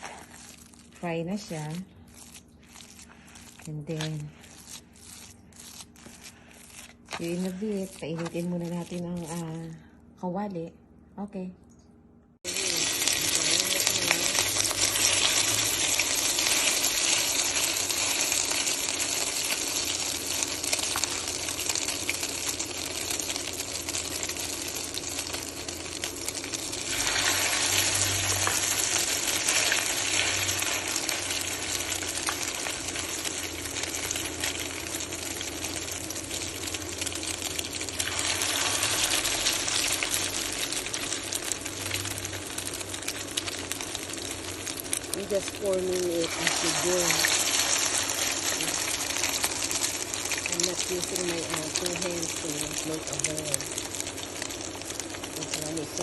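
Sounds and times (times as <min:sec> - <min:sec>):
hot oil sizzling in a frying pan: 0:00.0 - 0:09.7, 0:12.4 - 0:56.0.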